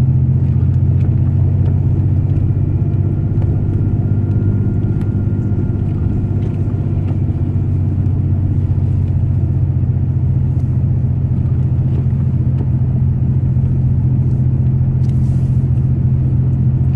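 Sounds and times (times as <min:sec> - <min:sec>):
pickup truck engine driving: 0:00.0 - 0:16.9.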